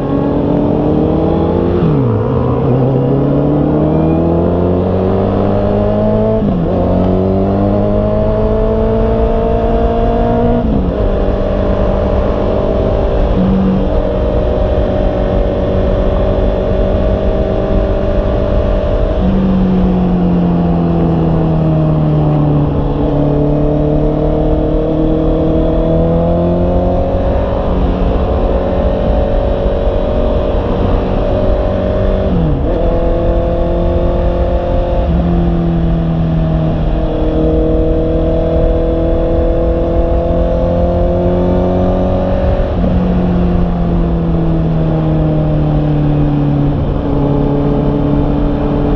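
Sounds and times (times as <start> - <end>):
wind noise: 0.0 - 48.9.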